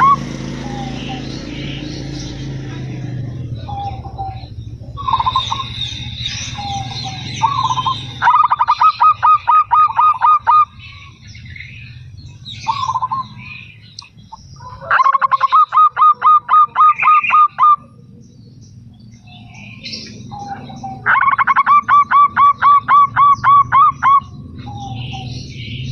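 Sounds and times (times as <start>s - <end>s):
dove cooing: 0.0s - 11.2s, 12.5s - 13.6s, 14.4s - 18.6s, 19.2s - 25.9s
high chirping: 0.0s - 25.9s.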